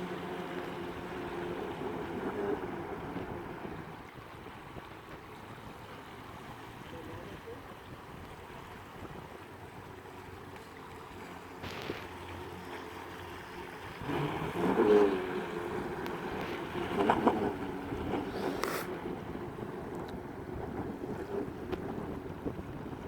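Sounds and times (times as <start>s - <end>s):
wind on microphone: 0.0s - 9.9s, 13.8s - 23.0s.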